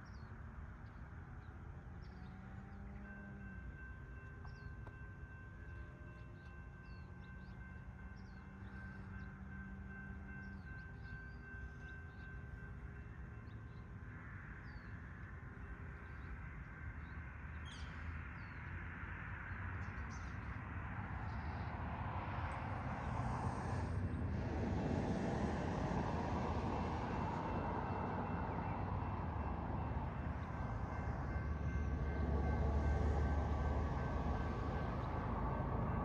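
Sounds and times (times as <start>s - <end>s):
distant diesel locomotive hum: 0.0s - 36.0s.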